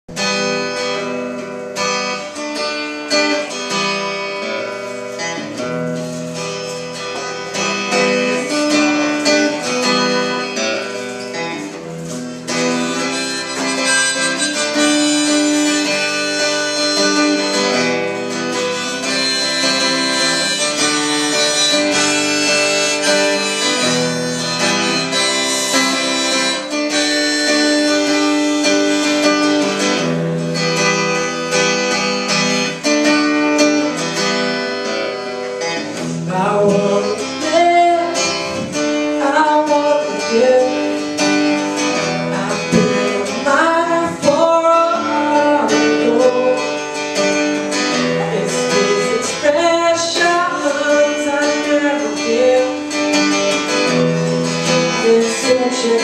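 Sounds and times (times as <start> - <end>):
acoustic guitar strumming: 0.1 - 56.0
harmonica long notes: 0.2 - 56.0.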